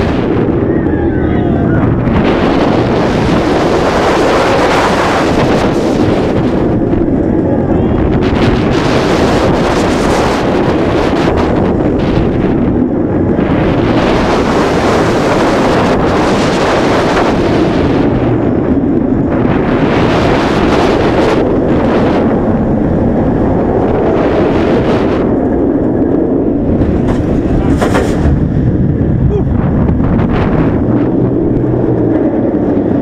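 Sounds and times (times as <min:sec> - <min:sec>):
roller coaster rumbling on track: 0:00.0 - 0:33.0
wind buffeting microphone: 0:00.0 - 0:33.0.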